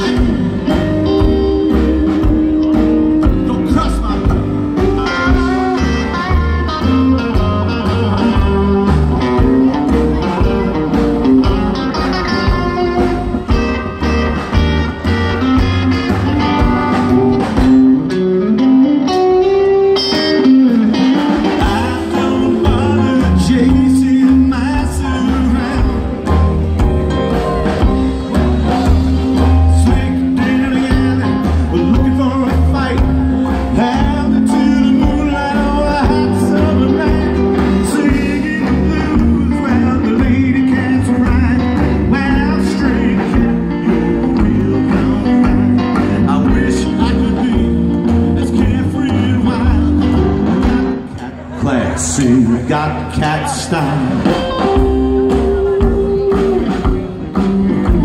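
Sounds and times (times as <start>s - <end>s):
electric guitar: 0.0s - 58.0s
rockabilly band playing: 0.0s - 58.0s
upright bass: 0.0s - 58.0s.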